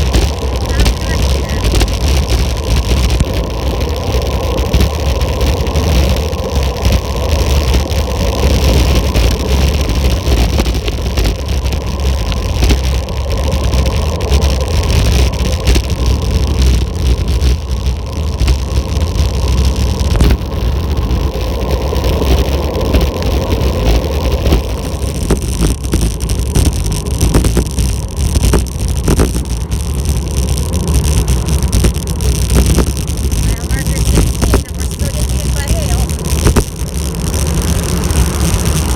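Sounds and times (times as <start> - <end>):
tyre and road noise: 0.0 - 38.9
wind buffeting microphone: 0.0 - 38.9.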